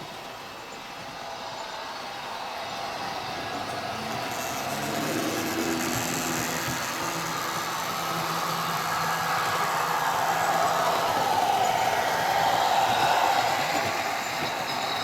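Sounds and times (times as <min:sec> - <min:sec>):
model train humming on track: 0:00.0 - 0:15.0.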